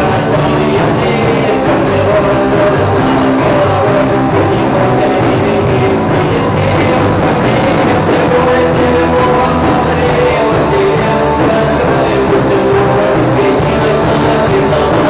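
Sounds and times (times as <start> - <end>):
electric guitar chords: 0.0 - 15.0
rock band playing: 0.0 - 15.0.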